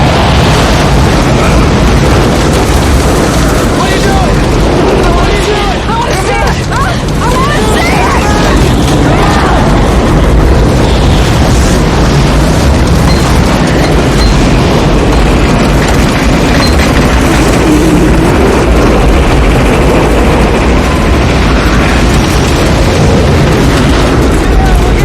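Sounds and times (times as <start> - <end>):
tornado wind roaring: 0.0 - 25.0.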